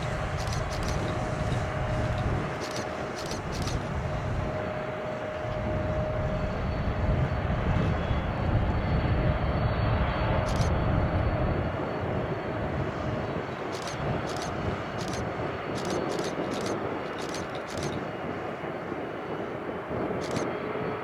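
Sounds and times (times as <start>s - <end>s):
faint steady whine: 0.0s - 20.5s
jet engines rumbling: 0.0s - 21.0s.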